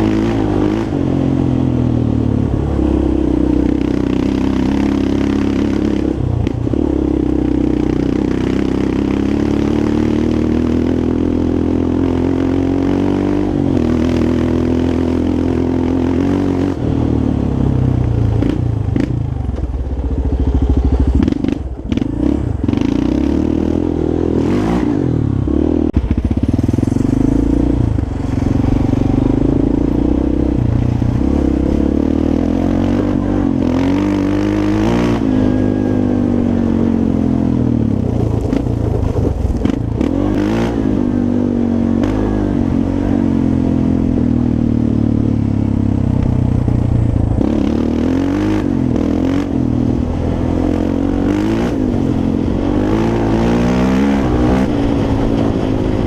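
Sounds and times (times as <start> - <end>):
quad engine revving: 0.0 - 19.4, 20.6 - 56.0.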